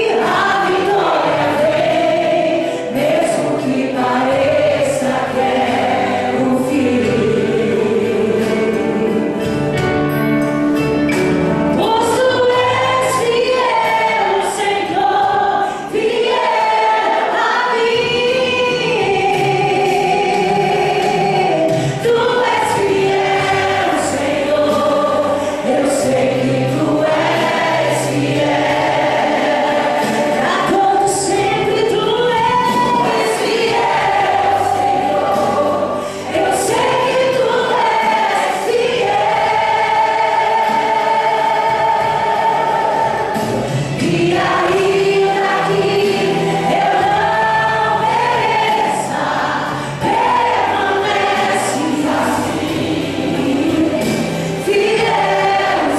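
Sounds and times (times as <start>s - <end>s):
choir singing a hymn: 0.0s - 10.1s, 11.7s - 55.9s.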